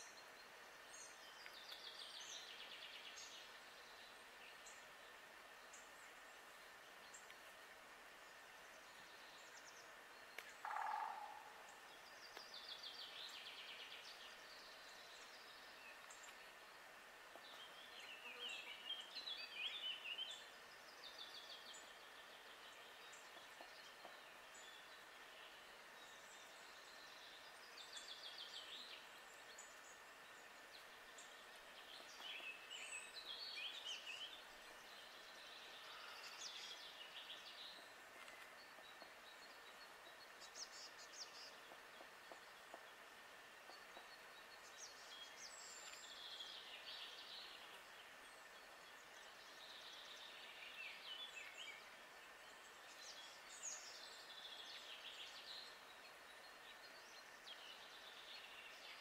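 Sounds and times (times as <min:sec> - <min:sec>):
songbirds twittering: 0:00.0 - 0:59.0
steady hiss: 0:00.0 - 0:59.0.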